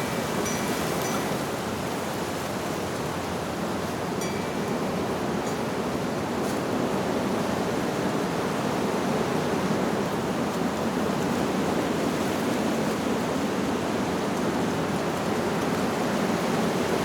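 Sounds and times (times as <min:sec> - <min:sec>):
wind blowing through leaves: 0:00.0 - 0:17.0.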